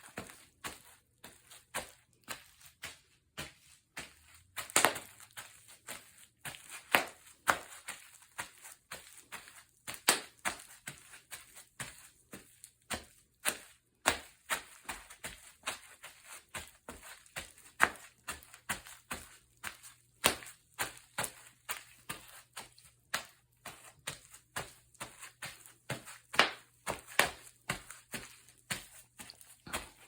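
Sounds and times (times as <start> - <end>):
bubble wrap popping underfoot: 0.0 - 30.0.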